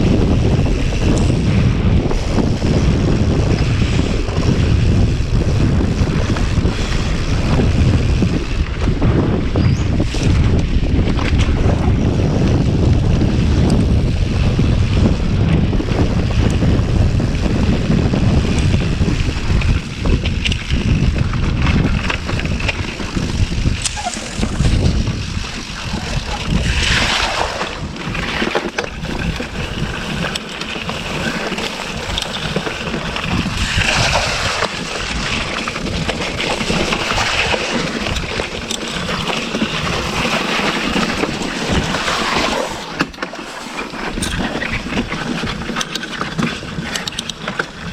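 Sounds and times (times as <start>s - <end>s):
tyres rolling over wet dirt: 0.0s - 47.9s
wind buffeting microphone: 0.0s - 47.9s.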